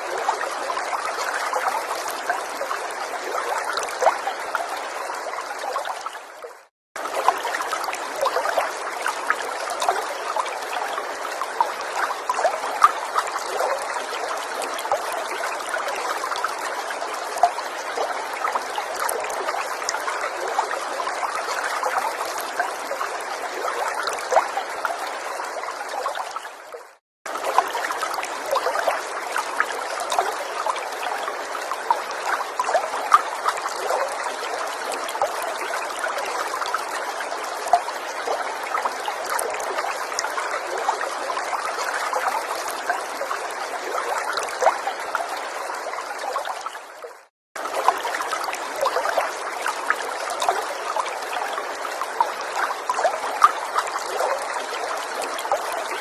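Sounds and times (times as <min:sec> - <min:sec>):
forest stream trickling: 0:00.0 - 0:56.0.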